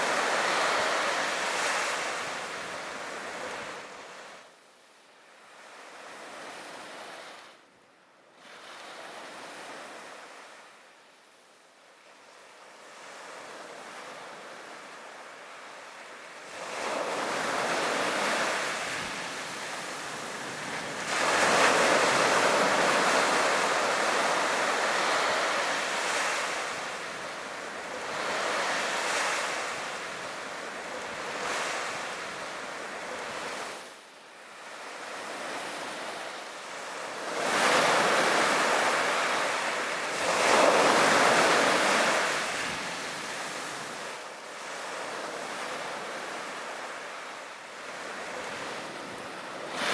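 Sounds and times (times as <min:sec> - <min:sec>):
sea waves breaking on beach: 0:00.0 - 0:04.4, 0:12.8 - 0:49.9.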